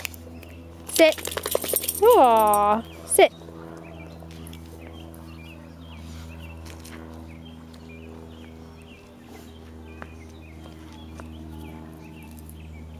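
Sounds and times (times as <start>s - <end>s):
low electrical machine hum: 0.0s - 12.9s.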